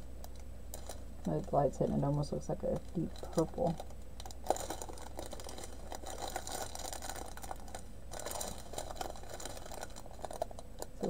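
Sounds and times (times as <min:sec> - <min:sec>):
plastic packaging crinkling: 0:00.2 - 0:11.0.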